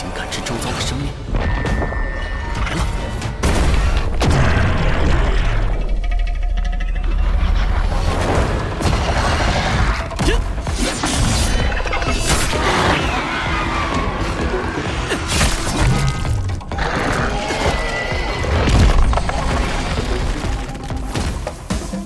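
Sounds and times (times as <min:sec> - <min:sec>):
dramatic music score: 0:00.0 - 0:22.0.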